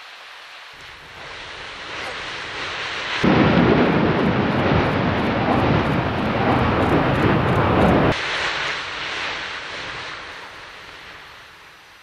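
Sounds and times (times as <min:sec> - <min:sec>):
faint rushing noise: 0:00.0 - 0:11.6
volcanic eruption blast: 0:00.8 - 0:11.5.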